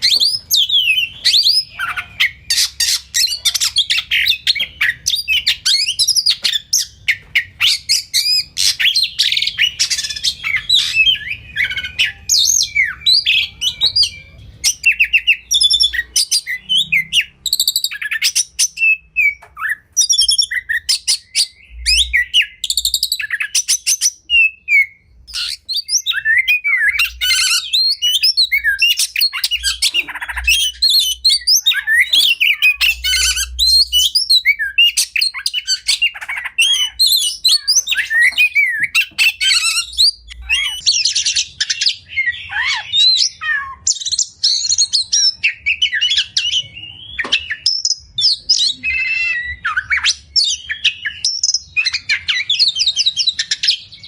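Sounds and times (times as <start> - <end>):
bird singing whistles and trills: 0.0 - 54.0.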